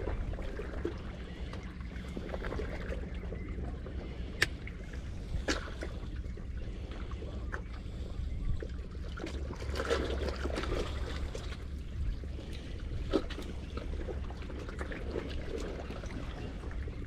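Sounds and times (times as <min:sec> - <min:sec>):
seawater sloshing and trickling: 0:00.0 - 0:17.0
steady low rumble: 0:00.0 - 0:17.0.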